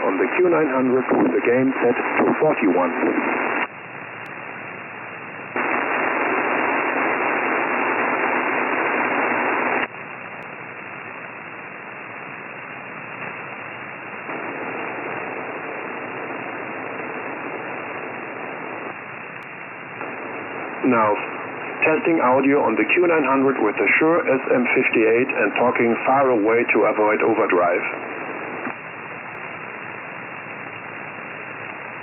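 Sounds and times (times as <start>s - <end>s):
faint steady hum tone: 0.0s - 32.0s
radio receiver hiss: 0.0s - 32.0s.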